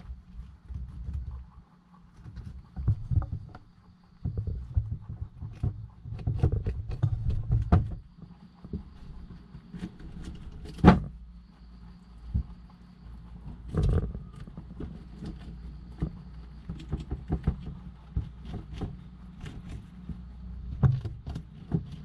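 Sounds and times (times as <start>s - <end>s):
rabbits scuffling: 0.0s - 22.0s.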